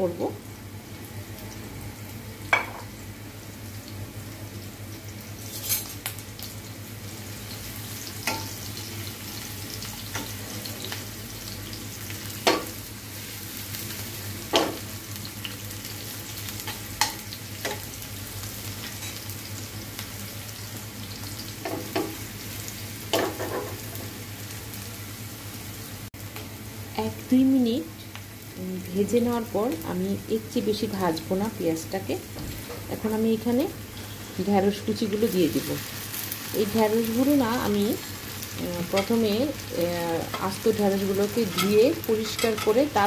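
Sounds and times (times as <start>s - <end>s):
onions sizzling in oil: 0.0s - 43.0s.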